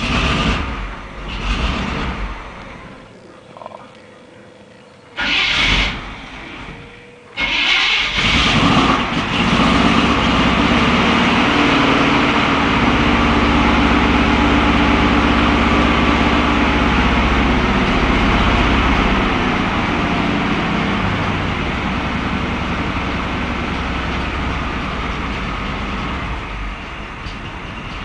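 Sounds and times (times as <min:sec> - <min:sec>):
engine running at fast idle: 0:00.0 - 0:03.1, 0:05.2 - 0:28.0
engine cranking: 0:00.0 - 0:03.7, 0:05.2 - 0:28.0.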